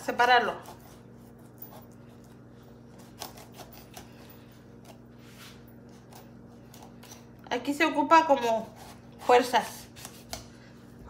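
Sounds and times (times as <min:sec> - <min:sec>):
knife scraping pumpkin rind: 0:00.0 - 0:07.4, 0:08.2 - 0:10.6.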